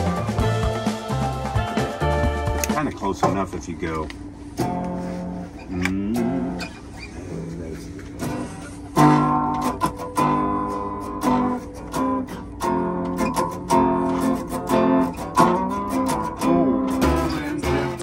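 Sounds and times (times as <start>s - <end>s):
acoustic guitar strummed: 0.0s - 3.7s, 4.3s - 7.2s, 7.9s - 18.0s.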